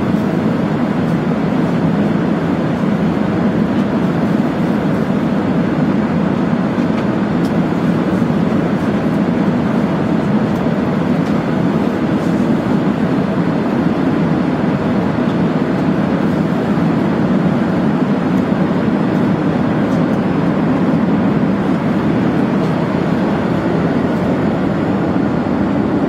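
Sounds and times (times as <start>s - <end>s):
airliner cabin noise: 0.0s - 26.0s.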